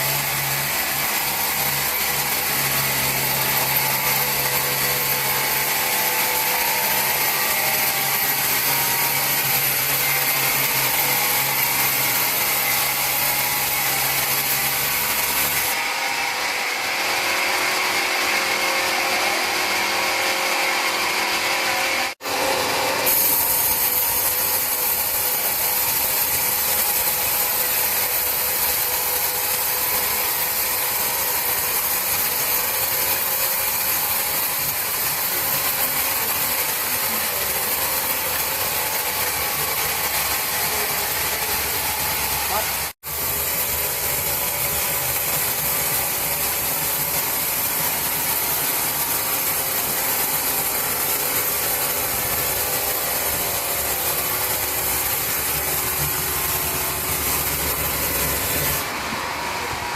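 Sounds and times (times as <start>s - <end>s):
power tool grinding wood: 0.0s - 59.9s.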